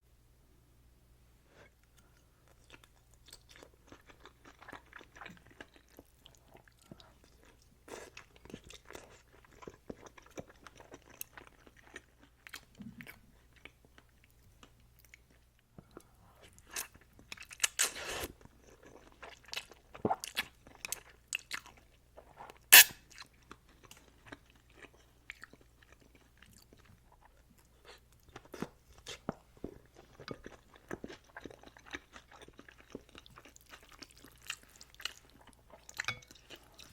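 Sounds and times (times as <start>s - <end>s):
person chewing noodles: 1.9s - 36.9s.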